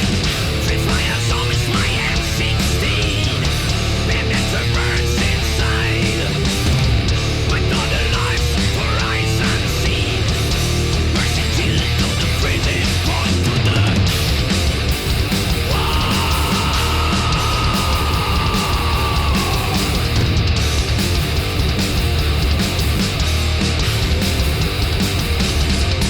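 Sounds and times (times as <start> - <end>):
heavy metal music: 0.0 - 26.0.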